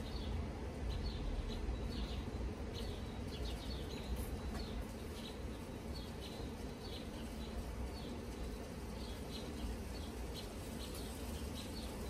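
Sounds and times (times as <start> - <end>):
honeybees humming: 0.0 - 12.0
small birds chirping: 0.0 - 12.0.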